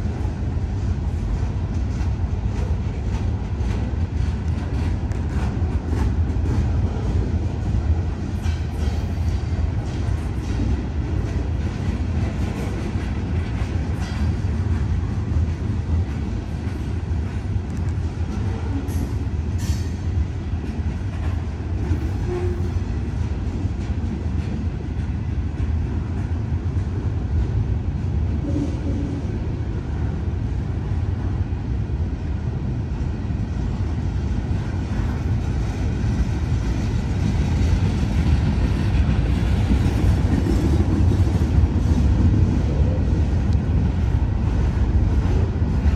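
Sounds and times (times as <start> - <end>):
rail click: 0.0 - 45.9
train wheels rumbling on rail: 0.0 - 45.9.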